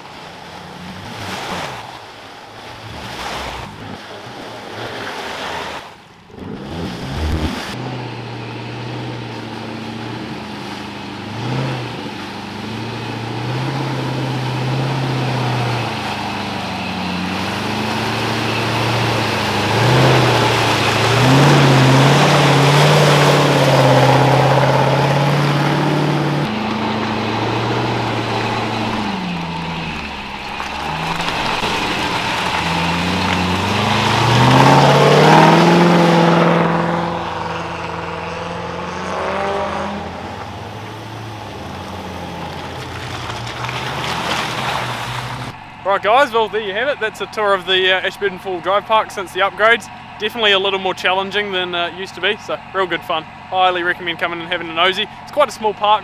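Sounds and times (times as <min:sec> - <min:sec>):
car engine revving: 0:00.0 - 0:56.0
tyres churning and splashing: 0:00.0 - 0:56.0.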